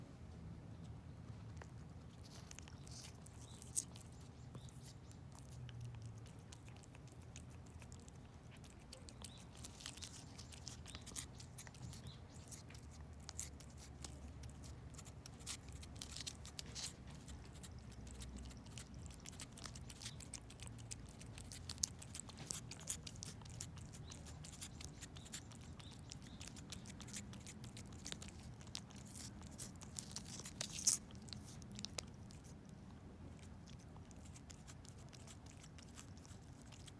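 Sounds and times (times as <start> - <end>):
cat licking and chewing: 0.0 - 36.9.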